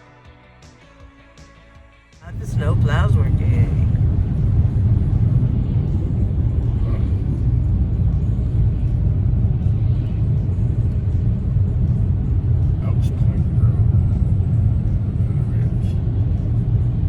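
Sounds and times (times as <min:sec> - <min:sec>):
car cabin road rumble: 0:02.2 - 0:17.0.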